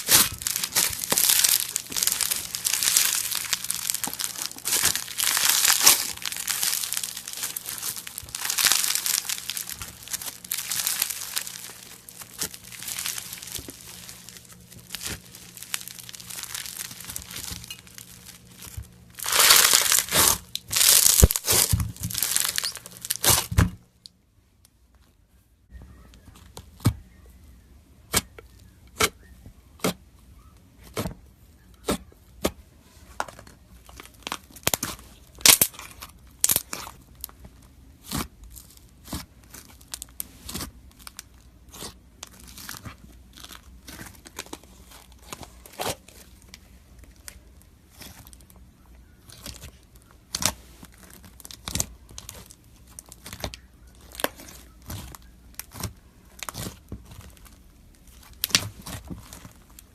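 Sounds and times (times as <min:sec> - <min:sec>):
slime popping and crackling: 0:00.0 - 0:23.8, 0:33.8 - 0:37.4, 0:38.0 - 0:48.6, 0:49.2 - 0:59.9.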